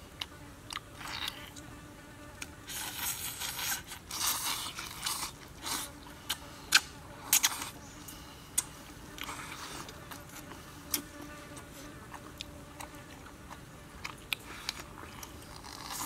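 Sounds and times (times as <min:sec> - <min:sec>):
insect buzz: 0:00.0 - 0:14.1
wet chewing and lip smacking: 0:02.4 - 0:07.8, 0:08.5 - 0:16.0.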